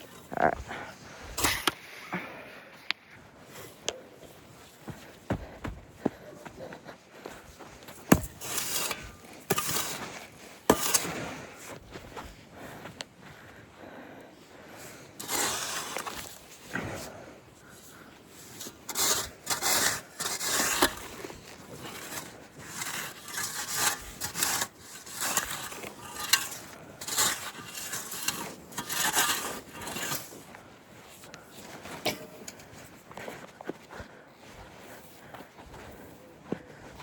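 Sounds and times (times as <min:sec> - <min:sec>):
scraping through sandy dirt: 0:00.0 - 0:13.0, 0:14.8 - 0:37.0.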